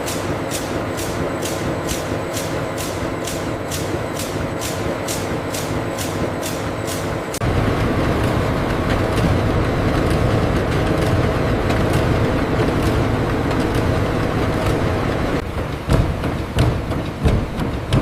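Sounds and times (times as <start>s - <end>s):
factory machinery rumble: 0.0s - 18.0s.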